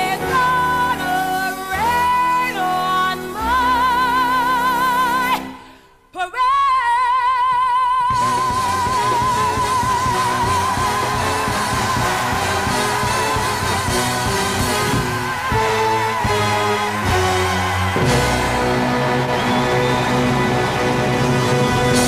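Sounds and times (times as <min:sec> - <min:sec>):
musical accompaniment: 0:00.0 - 0:06.1, 0:08.1 - 0:22.0.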